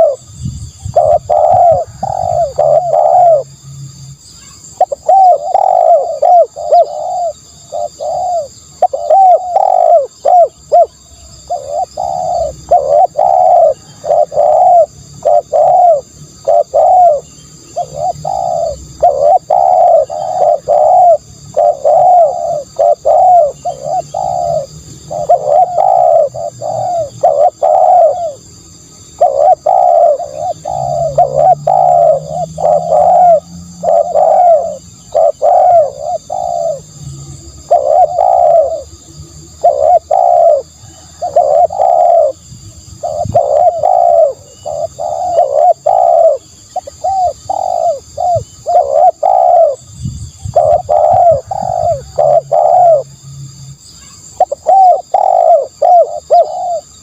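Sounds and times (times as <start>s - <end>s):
dove cooing: 0.0s - 3.6s, 4.4s - 53.3s, 54.0s - 57.0s
faint high-pitched drone: 0.0s - 49.8s.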